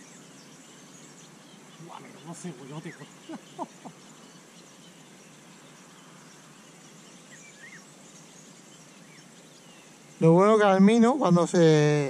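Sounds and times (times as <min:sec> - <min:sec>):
faint bird chirps: 0:00.0 - 0:12.0
steady low hiss: 0:00.0 - 0:12.0.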